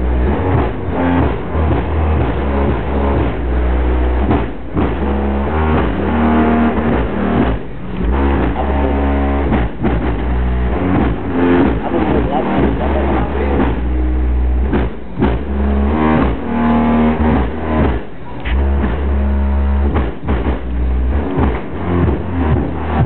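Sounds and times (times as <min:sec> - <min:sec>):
heavy subwoofer bass: 0:00.0 - 0:23.0
loud car stereo music: 0:00.0 - 0:23.0.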